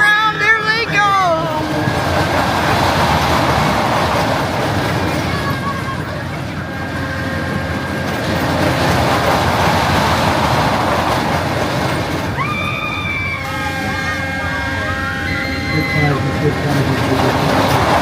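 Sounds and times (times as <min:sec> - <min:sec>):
ride train rushing rumble: 0:00.0 - 0:18.0.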